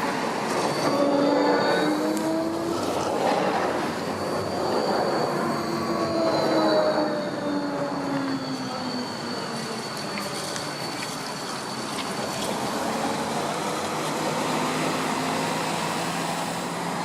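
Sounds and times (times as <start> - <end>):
tram running noise: 0.0 - 17.0
tram wheel squeal: 0.0 - 17.0.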